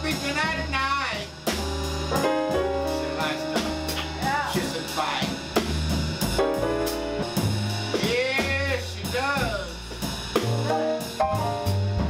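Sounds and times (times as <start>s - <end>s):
double bass low notes: 0.0s - 12.0s
drum kit on cymbals and drums: 0.0s - 12.0s
piano chords: 0.0s - 12.0s.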